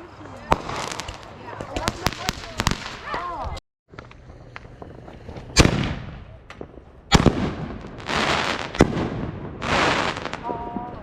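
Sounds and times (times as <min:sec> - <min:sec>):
firework bangs: 0:00.5 - 0:11.0.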